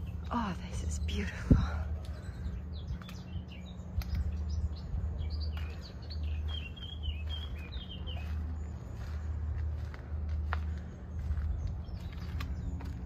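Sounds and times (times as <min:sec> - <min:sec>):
low steady rumble: 0:00.0 - 0:13.0
songbirds chirping and singing: 0:00.0 - 0:13.0.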